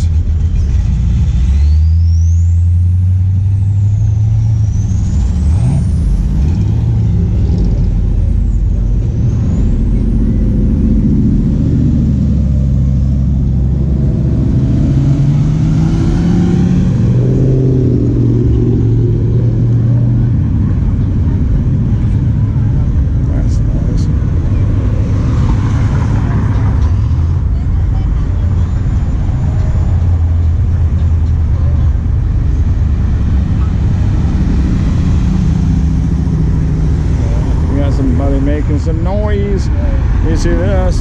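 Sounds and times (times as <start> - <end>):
car engine and exhaust rumble: 0.0 - 41.0.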